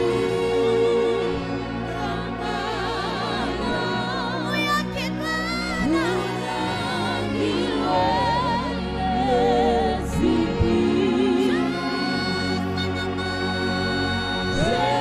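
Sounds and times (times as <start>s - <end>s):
backing music: 0.0s - 15.0s
person singing with vibrato: 0.0s - 15.0s.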